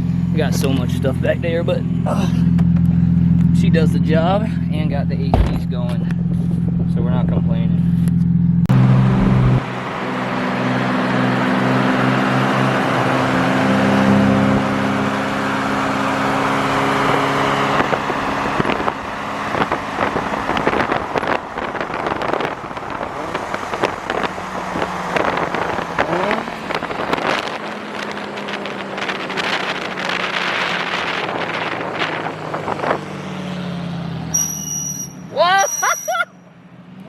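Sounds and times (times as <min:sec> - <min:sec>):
car engine running: 0:00.0 - 0:35.5
road noise: 0:00.0 - 0:37.0.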